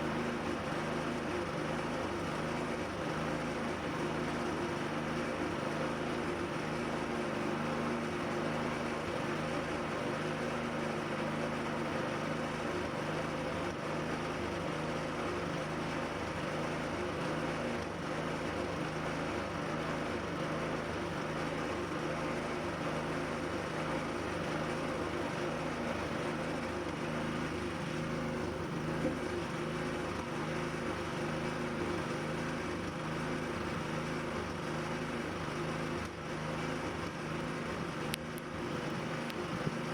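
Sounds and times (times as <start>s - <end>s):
motor humming steadily: 0.0s - 39.9s.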